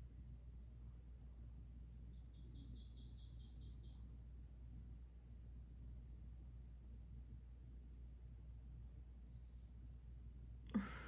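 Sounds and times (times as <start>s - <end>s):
songbird singing faintly: 0.0s - 11.0s.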